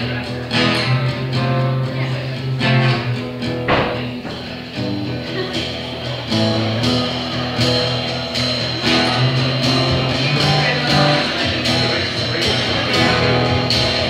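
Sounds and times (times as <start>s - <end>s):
drum kit steady beat: 0.0s - 14.0s
guitars strummed and plucked: 0.0s - 14.0s.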